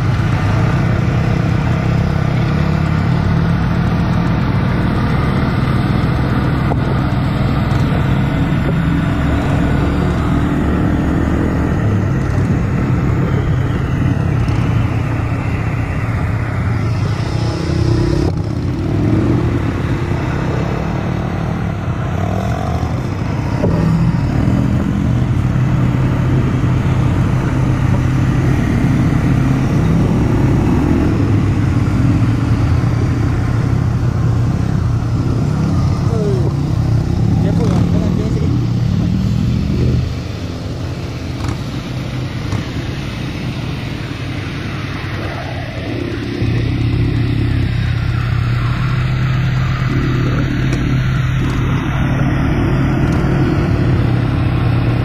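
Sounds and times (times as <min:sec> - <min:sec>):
quad bike engine running: 0:00.0 - 0:44.4.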